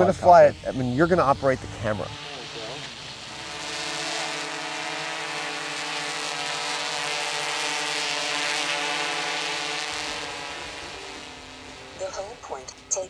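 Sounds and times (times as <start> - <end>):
quadcopter rotors buzzing: 0.0 - 13.0.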